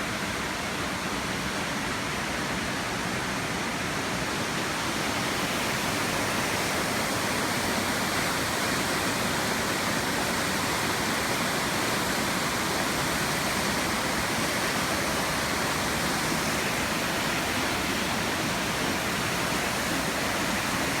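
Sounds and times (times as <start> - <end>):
waterfall rushing: 0.1 - 21.0.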